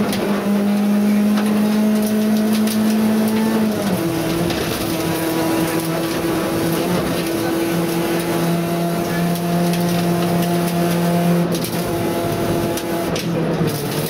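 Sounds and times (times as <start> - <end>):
rally car engine at high revs: 0.0 - 14.0
tyre and road noise: 0.0 - 14.0.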